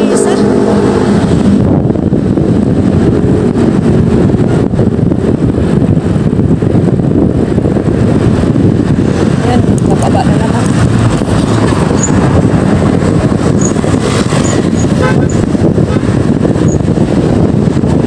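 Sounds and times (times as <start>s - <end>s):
vehicle low rumble: 0.0s - 18.0s
wind buffeting microphone: 0.0s - 18.0s.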